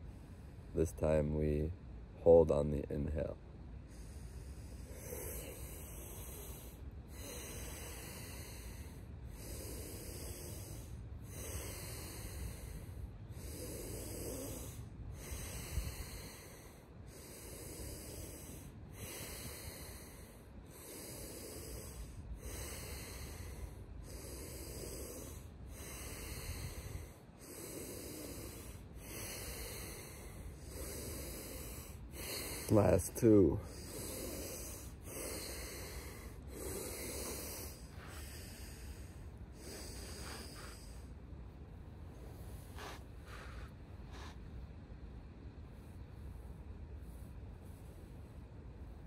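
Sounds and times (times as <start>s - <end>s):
people breathing forcefully: 3.9s - 41.3s, 42.1s - 44.5s.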